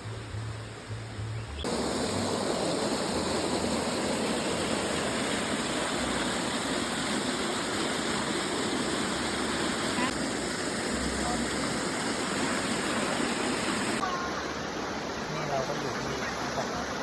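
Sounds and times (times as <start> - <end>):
waterfall rushing: 1.6 - 17.0.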